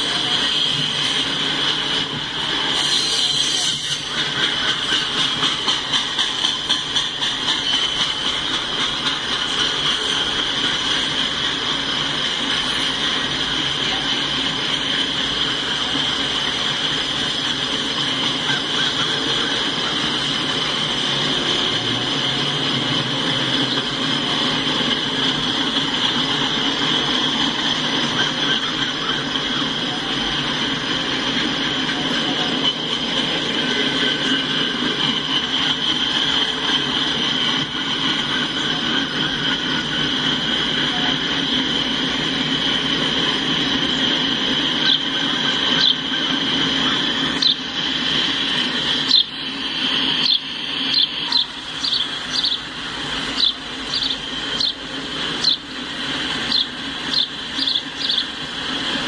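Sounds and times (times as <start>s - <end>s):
high wheel squeal: 0.0s - 58.5s
freight cars rumbling on rails: 0.0s - 59.0s.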